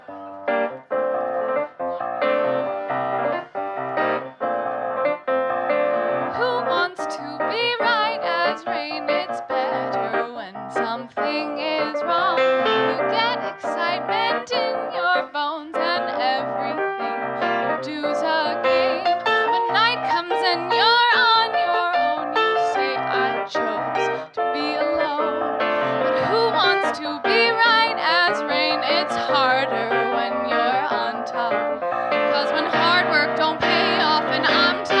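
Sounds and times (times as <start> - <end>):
piano chords: 0.0 - 35.0
woman singing: 6.3 - 35.0.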